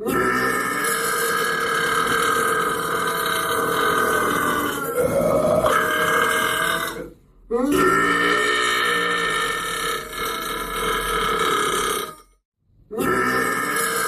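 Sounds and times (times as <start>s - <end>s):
person burping: 0.0s - 12.2s, 12.9s - 14.0s.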